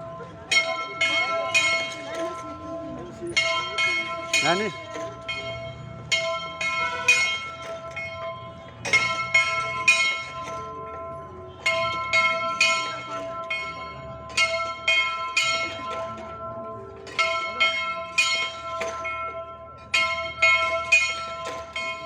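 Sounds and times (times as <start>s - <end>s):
bell strikes: 0.5s - 22.0s.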